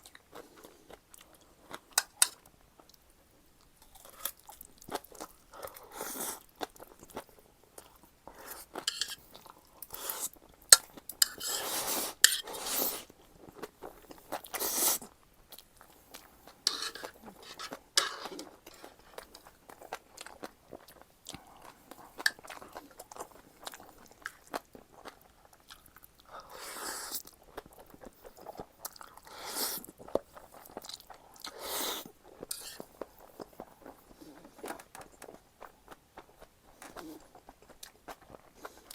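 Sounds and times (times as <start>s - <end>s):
person chewing and crunching: 3.7s - 38.9s.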